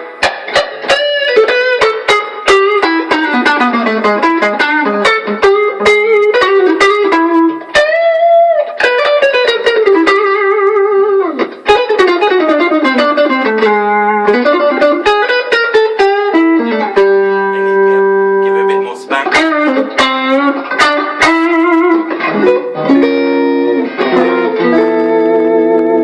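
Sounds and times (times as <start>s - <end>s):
clean electric guitar: 0.0s - 26.0s.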